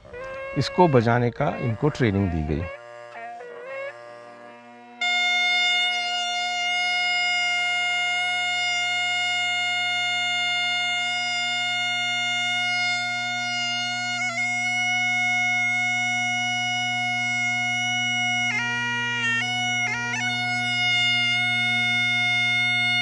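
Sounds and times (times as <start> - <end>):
bagpipe chanter high note: 0.0 - 23.0
bagpipe drone: 0.0 - 23.0.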